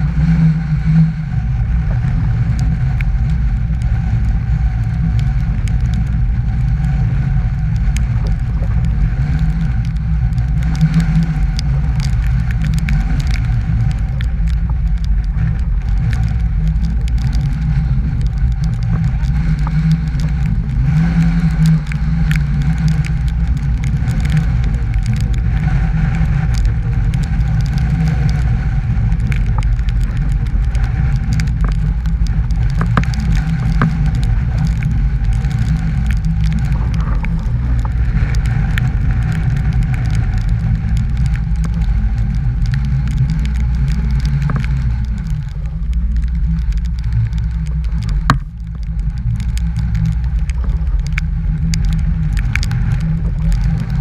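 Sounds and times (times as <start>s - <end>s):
small ticks and crackles: 0.0s - 54.0s
strong wind buffeting microphone: 0.0s - 54.0s.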